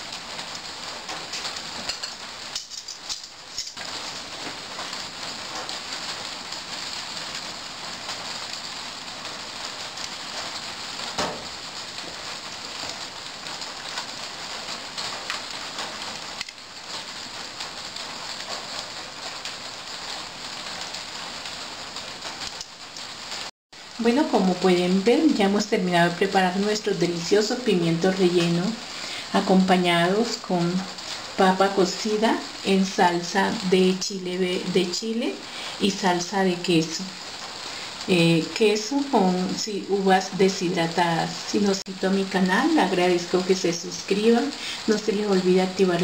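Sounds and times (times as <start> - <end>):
crackling hiss: 0.0 - 46.0.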